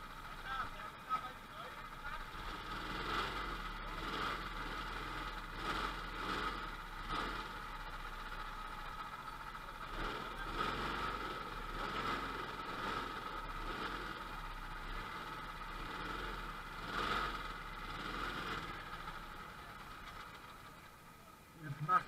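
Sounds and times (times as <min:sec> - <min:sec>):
go-kart engine idling: 0:00.0 - 0:22.0.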